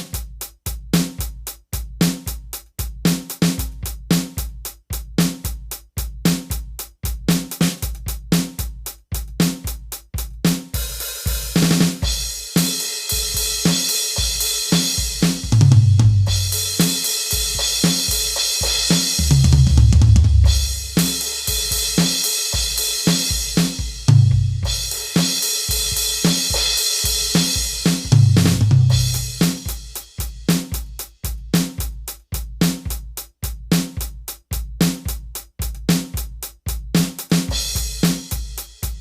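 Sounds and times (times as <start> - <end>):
rock drum kit beat: 0.0 - 39.0.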